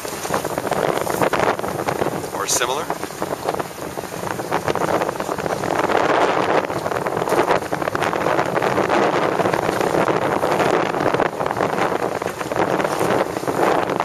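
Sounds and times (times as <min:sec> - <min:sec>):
boat moving through water: 0:00.0 - 0:14.0
wind buffeting microphone: 0:00.0 - 0:14.0.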